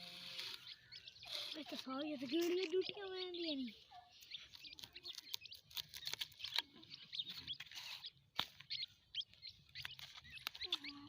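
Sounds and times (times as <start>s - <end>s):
chicks cheeping: 0.0s - 11.0s.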